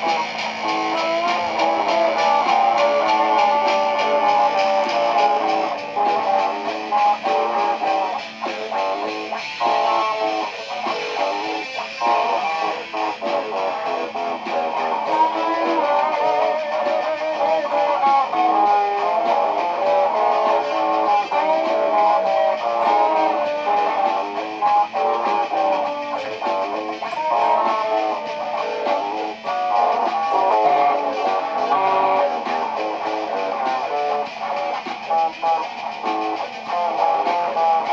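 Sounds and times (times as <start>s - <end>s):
looped electric guitar music: 0.0s - 37.9s.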